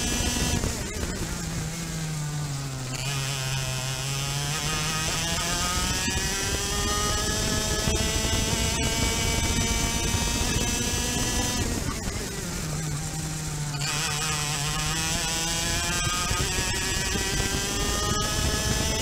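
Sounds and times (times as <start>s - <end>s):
kart engine revving: 0.0s - 19.0s.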